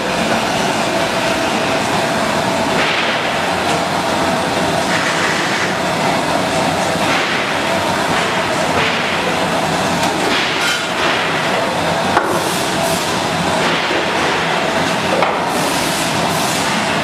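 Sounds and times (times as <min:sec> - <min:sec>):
popcorn machine rumble: 0:00.0 - 0:17.0.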